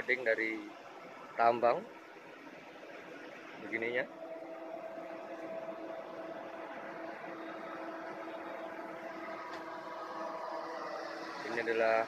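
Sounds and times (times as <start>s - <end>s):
conveyor machine hum: 0.0s - 12.0s.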